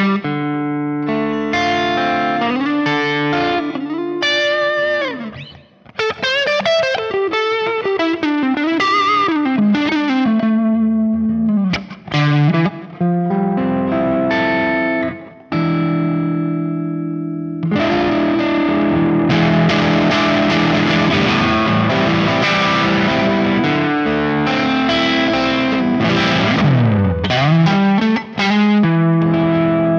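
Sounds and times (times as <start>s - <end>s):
distorted electric guitar: 0.0s - 29.9s.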